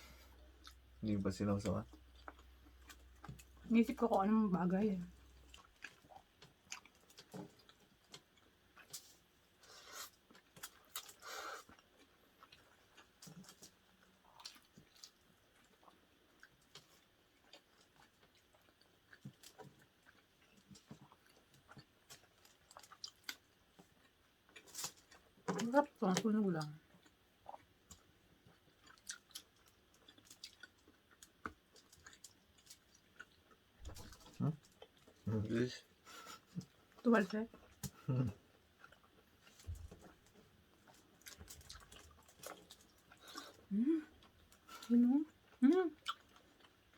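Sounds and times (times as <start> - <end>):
people chewing food: 0.0 - 46.9.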